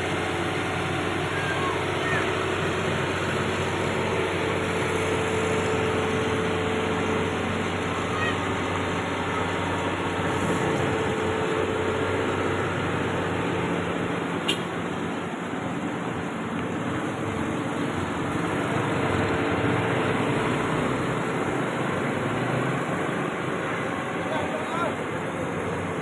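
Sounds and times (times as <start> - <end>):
heavy machinery engine running: 0.0 - 26.0.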